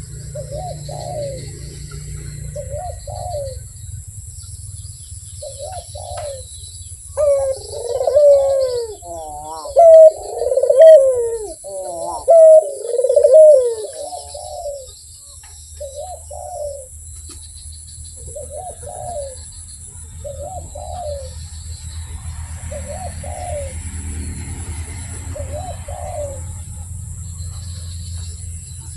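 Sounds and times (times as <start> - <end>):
dove cooing: 0.0 - 4.0, 5.2 - 17.4, 18.1 - 28.9
faint high bird chirps: 0.0 - 23.8.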